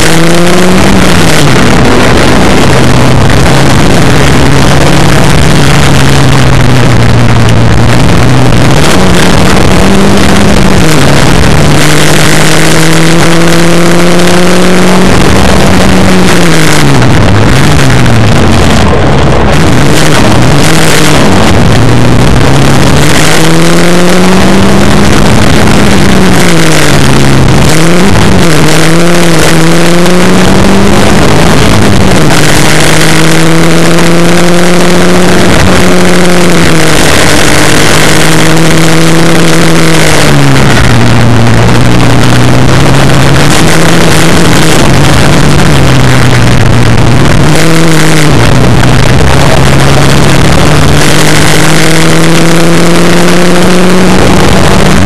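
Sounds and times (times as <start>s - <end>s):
rally car engine revving: 0.0s - 55.0s
wind and road noise: 0.0s - 55.0s.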